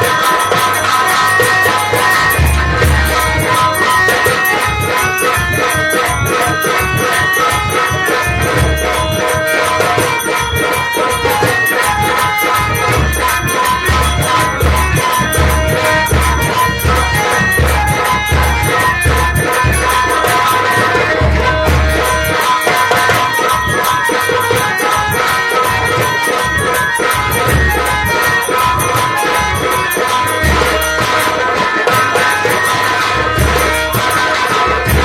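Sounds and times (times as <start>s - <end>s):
deep drum beat: 0.0s - 23.8s, 24.9s - 35.0s
reedy held notes: 0.0s - 35.0s.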